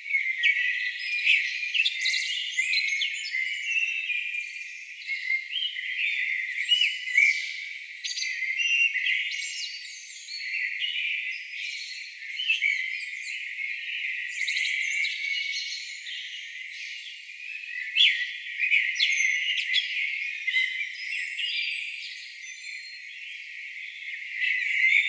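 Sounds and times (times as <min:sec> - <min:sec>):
songbirds chorus: 0:00.0 - 0:25.0.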